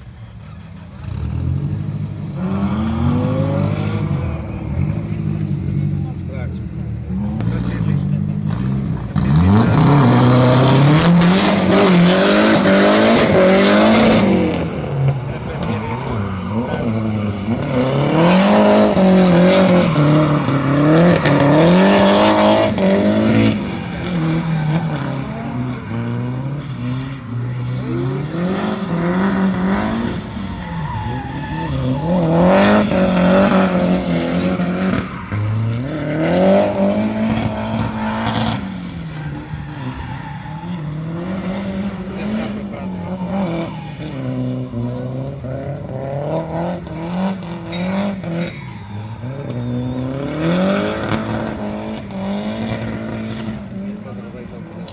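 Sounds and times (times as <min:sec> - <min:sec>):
rally car engine driven hard: 0:00.0 - 0:54.9.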